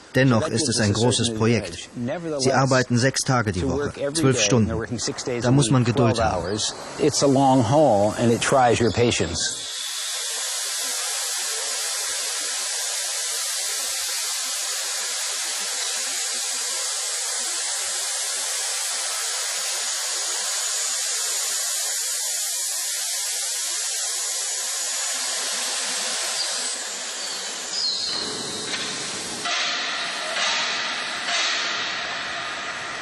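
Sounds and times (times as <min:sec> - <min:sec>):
loud steady hiss: 0:00.0 - 0:33.0.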